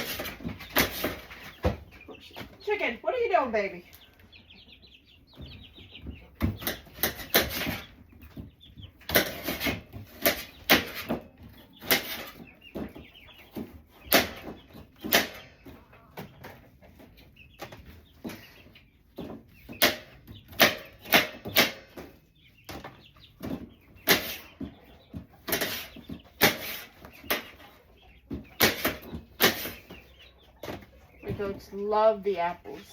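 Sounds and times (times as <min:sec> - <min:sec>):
chicken clucking: 0:00.0 - 0:32.9.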